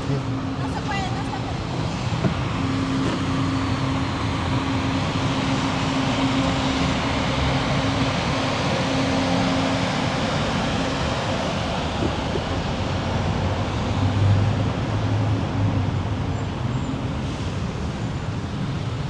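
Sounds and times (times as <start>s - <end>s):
city street noise: 0.0s - 19.0s.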